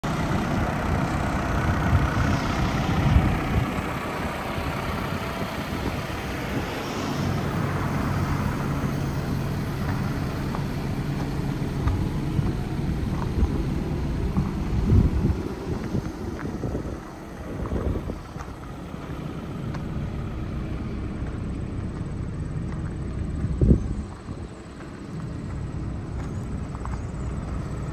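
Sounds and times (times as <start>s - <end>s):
wind buffeting microphone: 0.0s - 21.1s, 23.1s - 27.9s
low engine hum: 0.0s - 27.9s.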